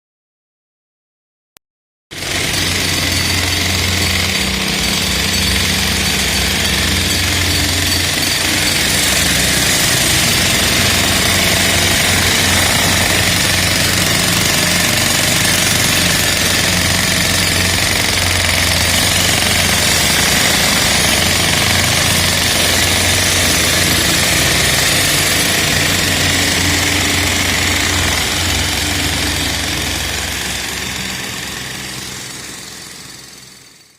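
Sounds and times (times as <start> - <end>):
demolition hammer chipping concrete: 2.1 - 33.9.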